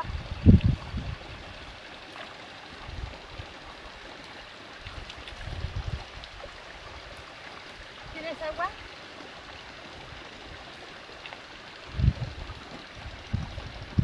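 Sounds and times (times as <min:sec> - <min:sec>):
stream trickling over stones: 0:00.0 - 0:14.0.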